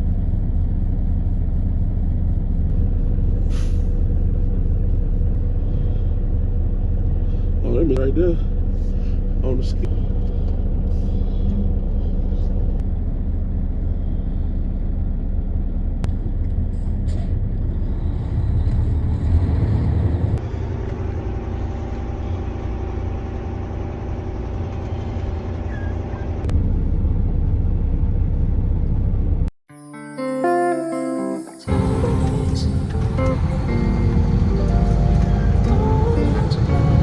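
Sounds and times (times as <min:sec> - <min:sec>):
vehicle engine running: 0:00.0 - 0:29.5, 0:31.7 - 0:37.0
low road rumble: 0:00.0 - 0:29.6, 0:31.7 - 0:37.0.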